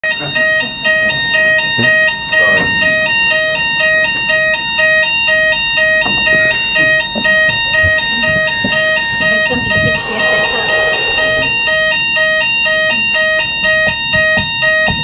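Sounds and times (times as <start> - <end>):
steady high tone: 0.0 - 15.0
two-pitch fire alarm tone: 0.0 - 15.0.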